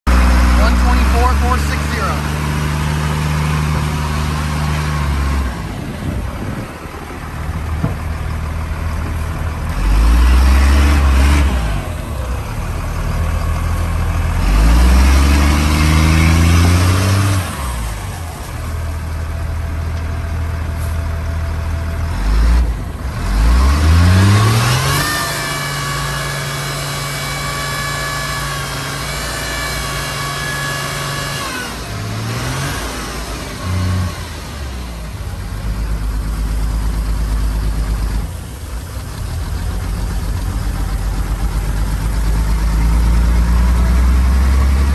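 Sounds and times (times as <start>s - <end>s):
diesel truck engine idling and revving: 0.0s - 44.9s.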